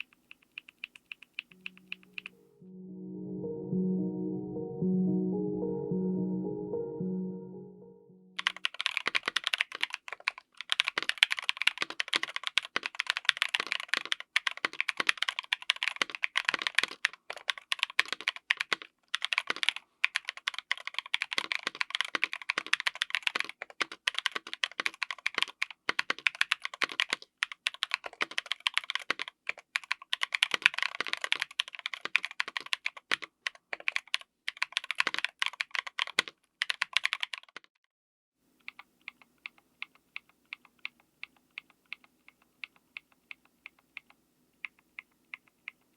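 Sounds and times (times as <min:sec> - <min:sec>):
fast typing on mechanical keyboard: 0:00.0 - 0:02.3, 0:08.4 - 0:37.7, 0:38.6 - 0:45.9.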